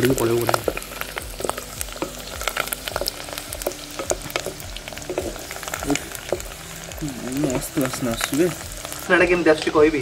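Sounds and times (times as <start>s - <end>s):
garlic sizzling in hot fat: 0.0s - 10.0s
wooden spatula stirring: 0.1s - 9.0s.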